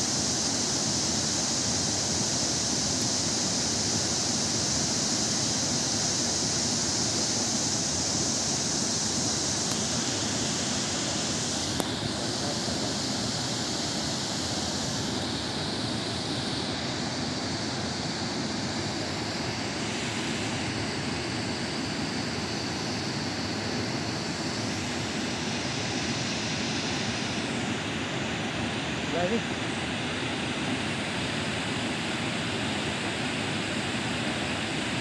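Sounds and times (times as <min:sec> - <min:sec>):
distant waterfall rushing: 0:00.0 - 0:35.0.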